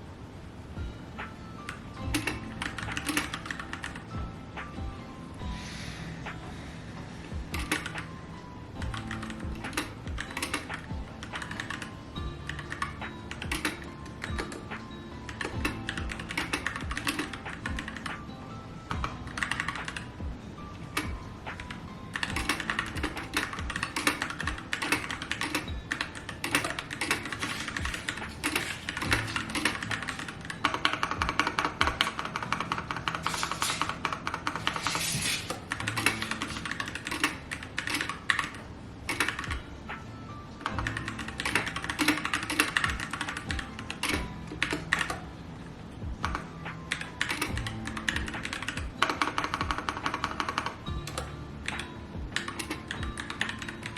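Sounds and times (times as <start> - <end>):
background music: 0.0 - 53.9
rapid keyboard typing: 1.2 - 4.8, 7.3 - 8.2, 8.8 - 53.9.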